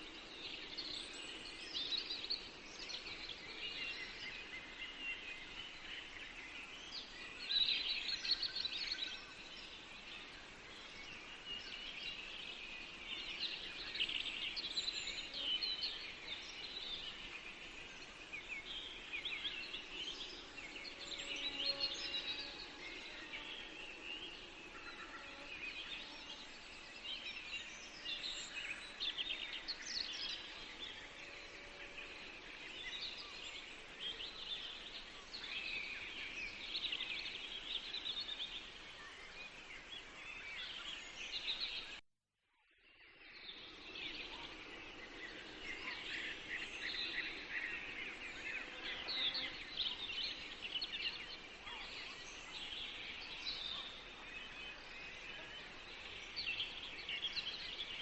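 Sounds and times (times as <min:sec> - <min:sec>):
songbirds chirping and trilling: 0:00.0 - 0:42.0, 0:42.7 - 0:58.0.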